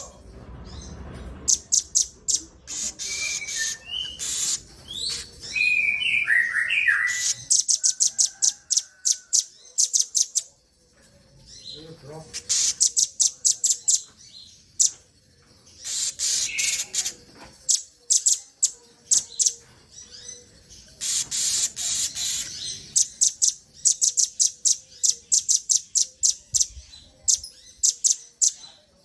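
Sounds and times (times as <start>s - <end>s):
songbirds chipping: 0.0s - 29.0s.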